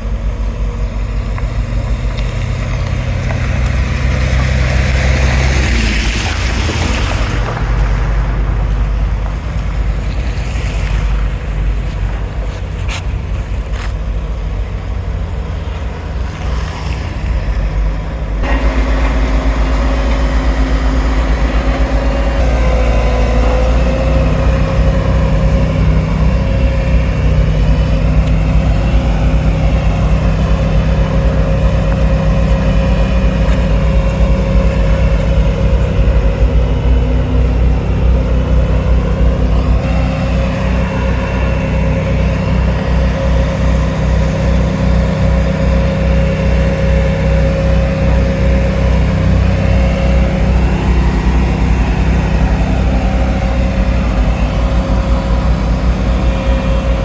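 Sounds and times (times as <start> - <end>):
heavy machinery engine running: 0.0 - 57.0.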